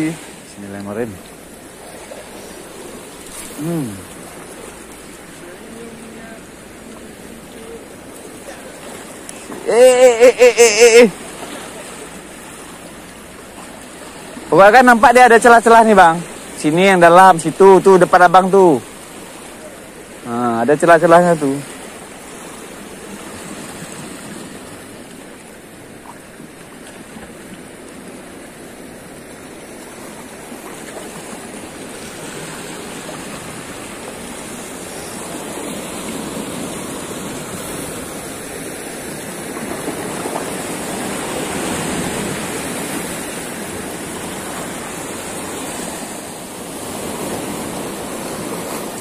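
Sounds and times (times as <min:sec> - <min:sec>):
waves splashing against rocks: 0:00.0 - 0:49.0.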